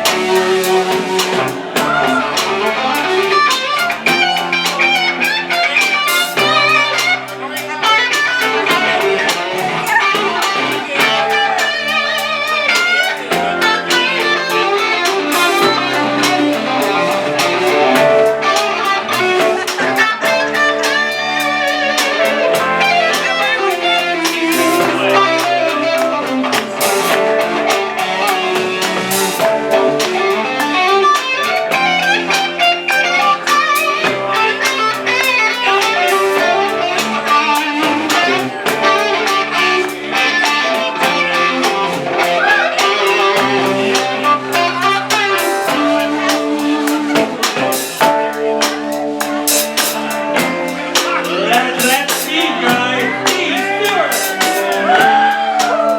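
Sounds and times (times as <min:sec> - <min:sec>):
bass: 0:00.0 - 0:55.9
electric guitar: 0:00.0 - 0:55.9.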